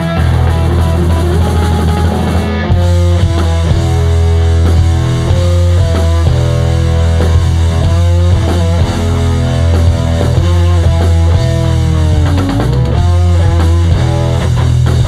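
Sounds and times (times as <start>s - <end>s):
bass guitar: 0.0s - 15.0s
drums: 0.0s - 15.0s
electric guitar sliding note: 0.0s - 15.0s.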